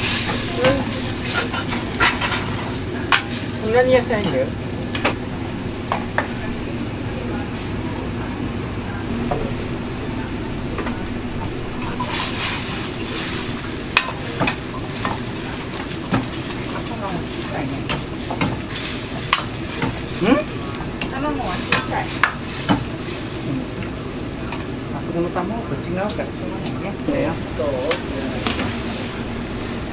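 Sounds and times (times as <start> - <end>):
vegetables sizzling in a wok: 0.0 - 29.9.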